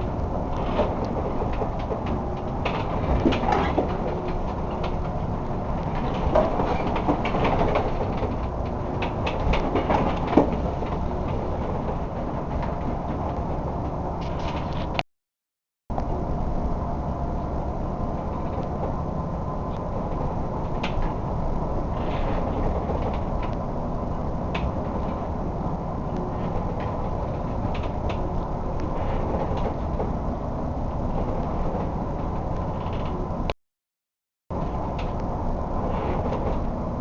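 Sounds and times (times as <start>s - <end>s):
boat creaks and clicks: 0.0s - 15.0s, 17.5s - 33.6s, 34.5s - 37.0s
boat low rumble: 0.0s - 15.0s, 15.9s - 33.5s, 34.5s - 37.0s.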